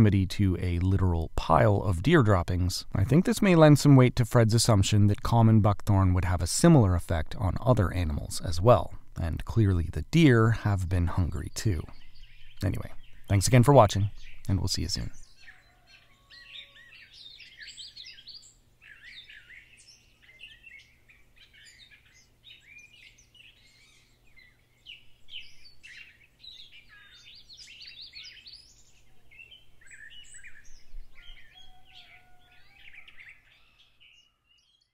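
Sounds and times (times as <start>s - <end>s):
small birds chirping: 4.6s - 34.9s.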